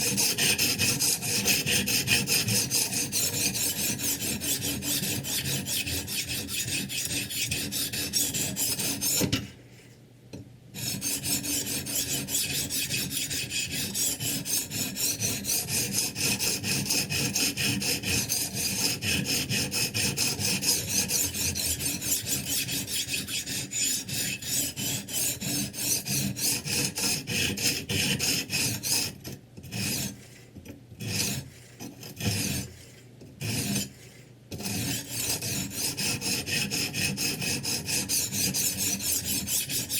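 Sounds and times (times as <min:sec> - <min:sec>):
sharpening stone rasping on knife: 0:00.0 - 0:09.5, 0:10.8 - 0:39.9.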